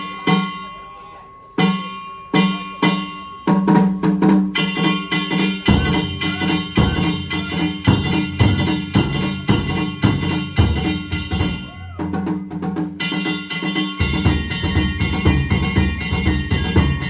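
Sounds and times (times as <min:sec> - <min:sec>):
hand gongs struck in rhythm: 0:00.0 - 0:00.9, 0:01.6 - 0:17.0
deep drum beats: 0:01.6 - 0:17.0.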